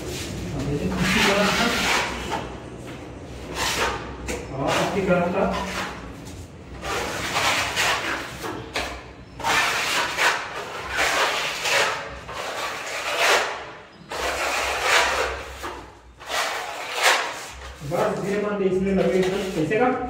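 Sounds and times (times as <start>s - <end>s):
putty knives scraping wall: 0.7s - 2.5s, 3.4s - 6.0s, 6.8s - 19.7s.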